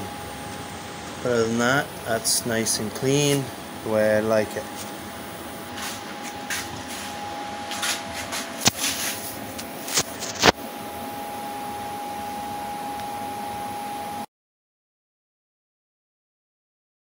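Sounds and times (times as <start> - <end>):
steady mechanical hum: 0.0 - 14.3.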